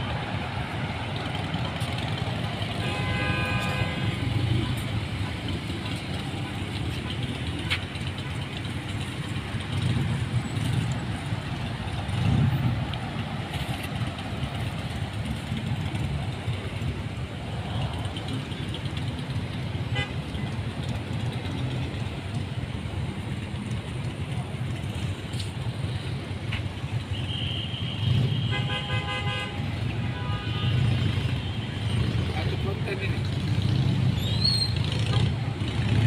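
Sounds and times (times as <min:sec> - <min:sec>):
cars driving past: 0:00.0 - 0:36.0.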